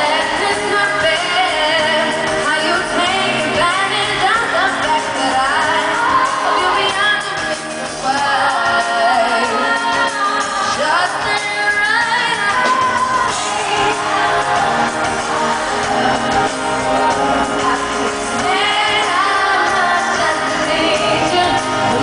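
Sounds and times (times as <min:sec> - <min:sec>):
woman singing into microphone: 0:00.0 - 0:22.0.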